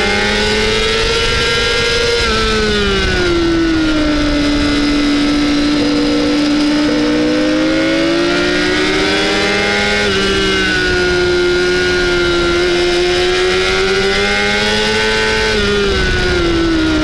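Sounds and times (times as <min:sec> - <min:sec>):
motorcycle engine at high revs: 0:00.0 - 0:17.0
wind rush: 0:00.0 - 0:17.0.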